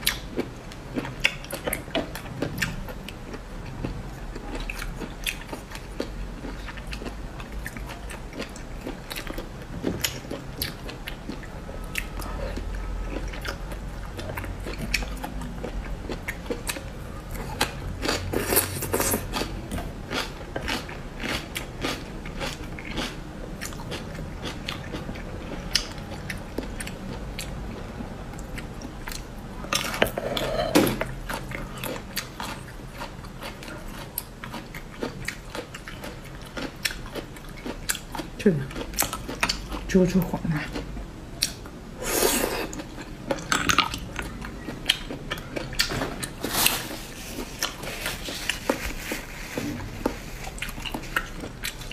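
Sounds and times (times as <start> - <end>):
chewing: 0.0 - 39.9, 40.6 - 51.9.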